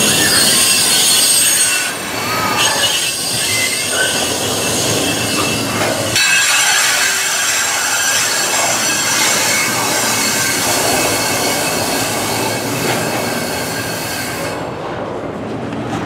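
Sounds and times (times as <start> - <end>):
high-pitched brake squeal: 0.0 - 14.6
rumble of freight car wheels: 0.0 - 16.0.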